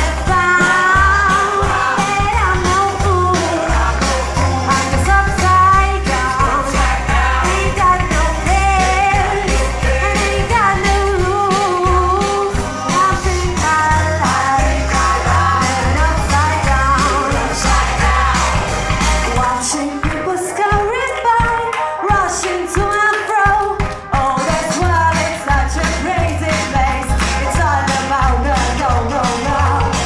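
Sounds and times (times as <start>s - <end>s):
woman singing into microphone: 0.0s - 3.9s, 4.5s - 18.5s, 19.2s - 30.0s
backing with bass and drums: 0.0s - 30.0s.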